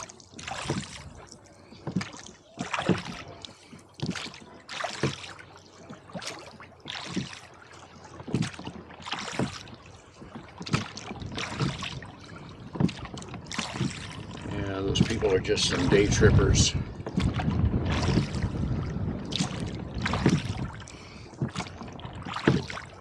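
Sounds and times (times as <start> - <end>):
oars splashing through water: 0.0 - 23.0.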